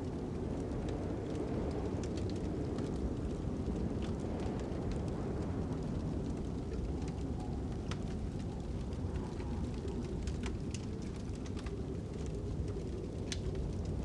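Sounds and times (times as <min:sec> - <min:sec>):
fire crackling: 0:00.0 - 0:14.0
wind rumble: 0:00.0 - 0:14.0.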